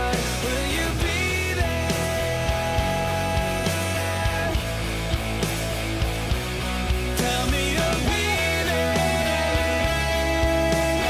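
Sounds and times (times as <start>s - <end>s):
rock song with guitar: 0.0s - 11.0s.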